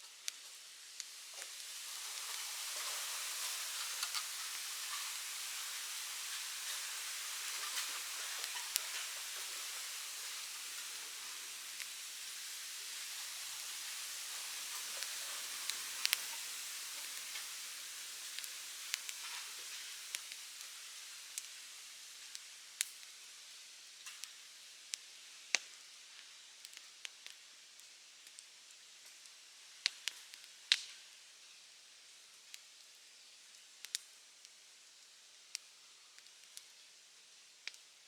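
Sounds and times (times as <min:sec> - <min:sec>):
bonfire hissing: 0:00.0 - 0:38.0
fire crackling pops: 0:00.0 - 0:38.0.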